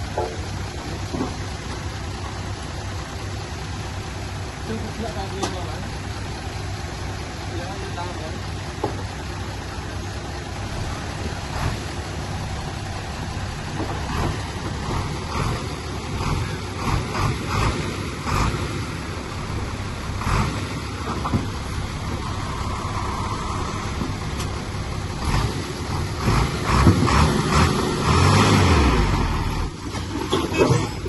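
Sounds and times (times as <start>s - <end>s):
diesel engine of heavy machinery: 0.0s - 31.0s.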